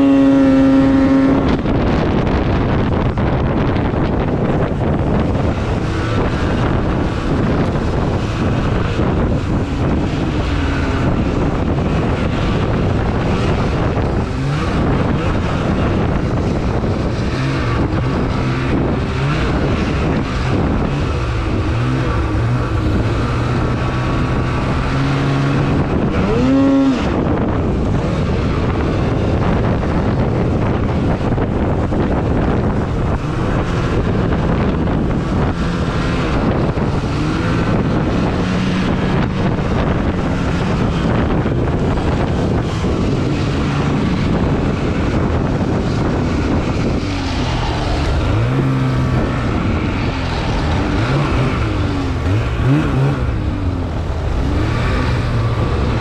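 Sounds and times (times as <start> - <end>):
snowmobile engine revving: 0.0 - 56.0
wind noise on microphone: 0.0 - 56.0.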